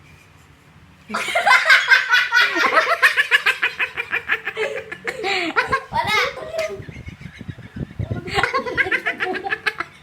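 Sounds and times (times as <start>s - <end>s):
loud laughter: 1.1s - 10.0s.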